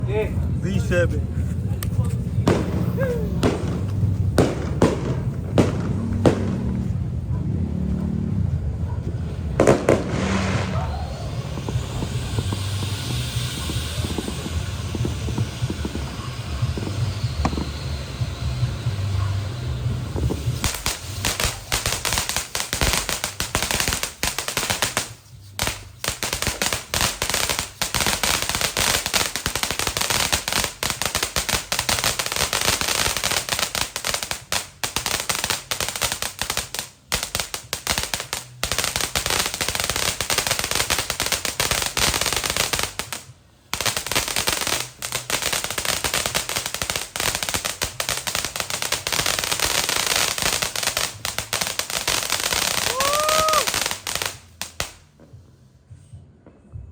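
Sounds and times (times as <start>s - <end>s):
fountain firework crackling: 0.0s - 7.4s, 8.4s - 55.1s.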